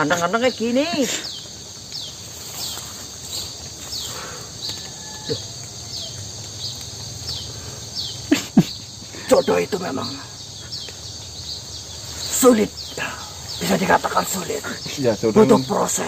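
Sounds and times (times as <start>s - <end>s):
falling insect chirp: 0.0s - 16.0s
insect chorus buzzing: 0.0s - 16.0s.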